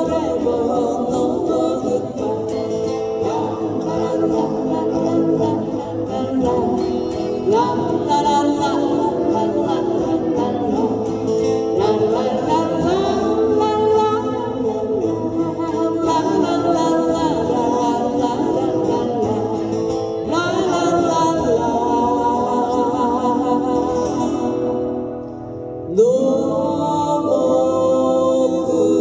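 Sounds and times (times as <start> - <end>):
men singing: 0.0 - 24.6, 26.0 - 29.0
acoustic guitars: 0.0 - 29.0.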